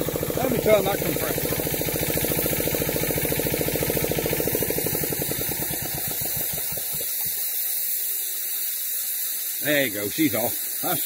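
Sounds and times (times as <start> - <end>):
air compressor chugging: 0.0 - 11.0.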